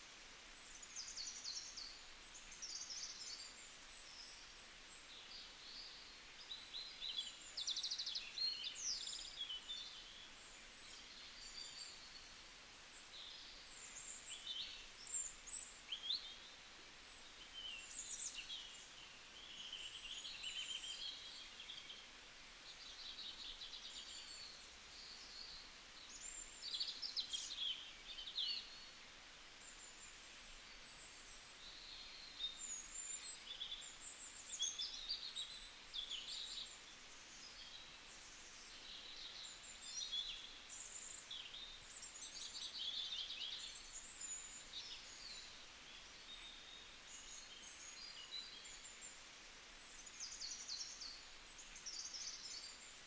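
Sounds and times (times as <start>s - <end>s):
faint background hiss: 0.0s - 53.0s
songbirds chirping and trilling: 0.8s - 53.0s.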